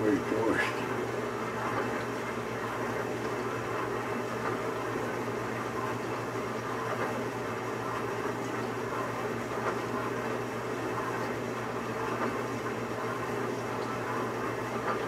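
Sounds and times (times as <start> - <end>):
dishwasher hum: 0.0 - 15.0.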